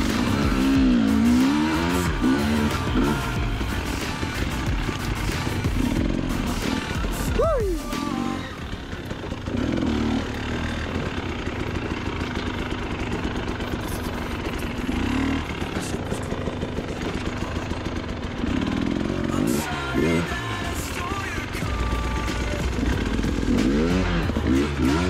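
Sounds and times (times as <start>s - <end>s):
dirt bike throttle bursts: 0.0s - 20.3s
dirt bike engine running unevenly: 0.0s - 25.0s.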